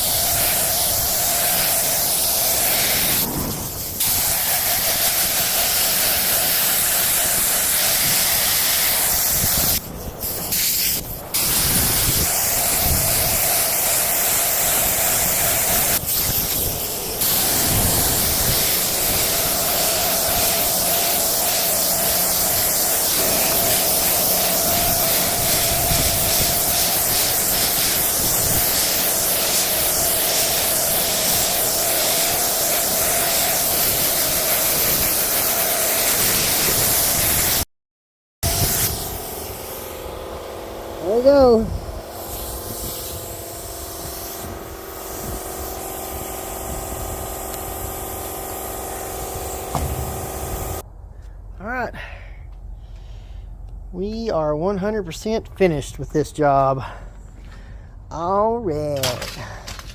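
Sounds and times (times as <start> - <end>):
paint spray gun hissing: 0.0 - 37.6, 38.4 - 50.8.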